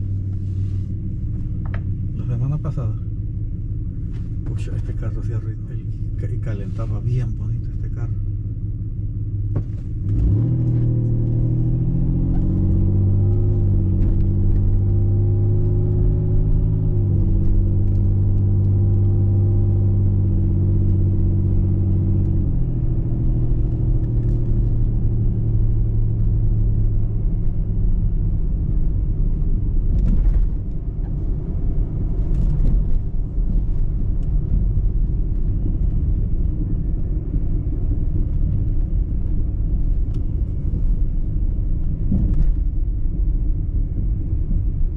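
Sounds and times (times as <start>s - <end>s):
car engine hum: 0.0s - 44.9s
low road rumble: 0.0s - 44.9s.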